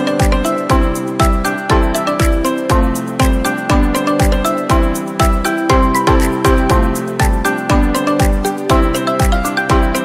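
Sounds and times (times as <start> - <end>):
music with kick-drum beat: 0.0 - 10.0.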